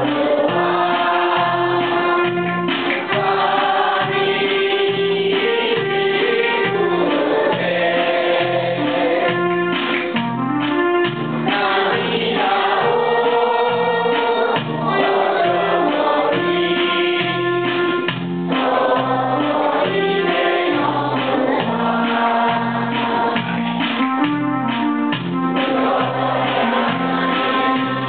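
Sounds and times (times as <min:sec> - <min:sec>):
electronic keyboard tune: 0:00.0 - 0:28.0.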